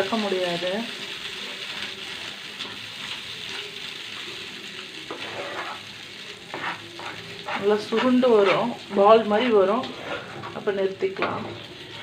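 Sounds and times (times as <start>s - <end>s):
oil sizzling: 0.0s - 12.0s
batter stirred in a pan: 0.1s - 12.0s.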